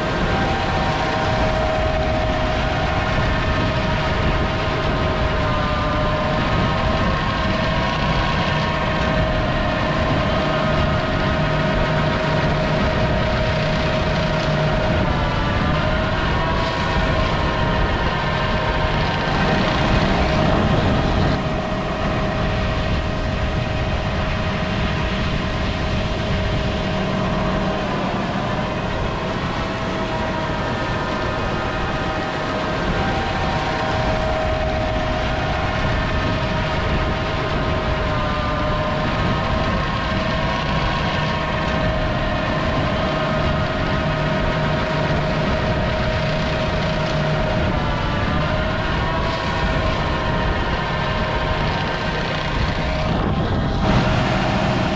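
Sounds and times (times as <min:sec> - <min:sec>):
heavy machinery engine: 0:00.0 - 0:54.9
machine whine: 0:00.0 - 0:54.9.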